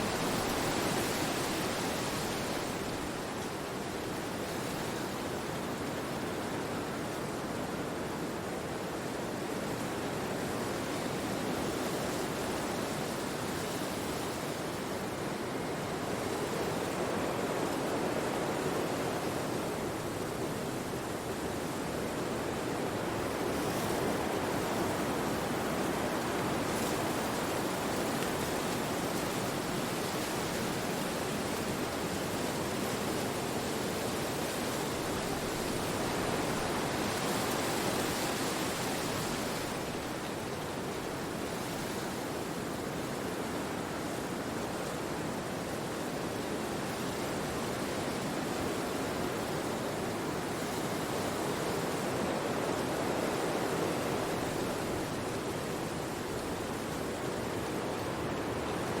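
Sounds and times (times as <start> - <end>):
wind through forest trees: 0.0 - 59.0.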